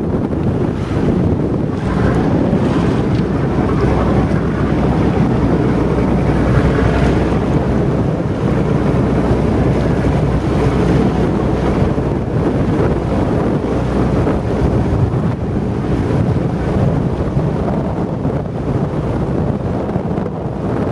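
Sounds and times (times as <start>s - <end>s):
boat rumbling through water: 0.0s - 20.9s
wind buffeting microphone: 0.0s - 20.9s.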